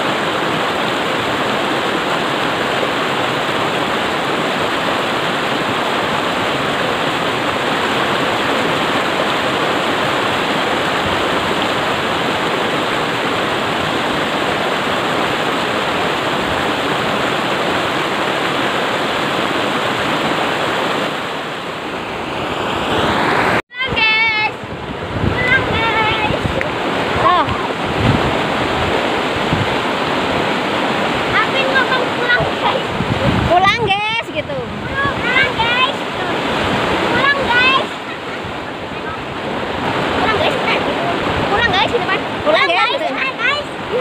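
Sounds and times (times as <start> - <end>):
river rushing through rapids: 0.0 - 44.0.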